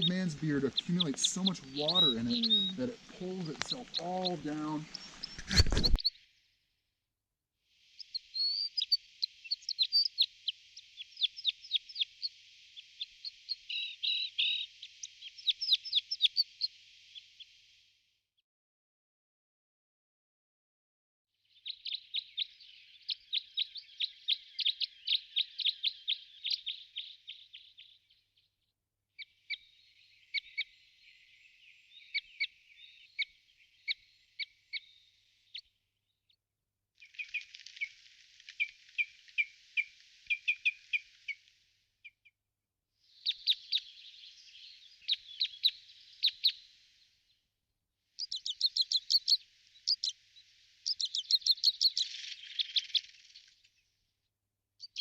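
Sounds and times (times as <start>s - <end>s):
songbirds twittering: 0.0s - 6.3s, 7.8s - 17.7s, 21.4s - 36.4s, 37.0s - 42.3s, 43.0s - 47.4s, 48.1s - 54.0s, 54.8s - 55.0s.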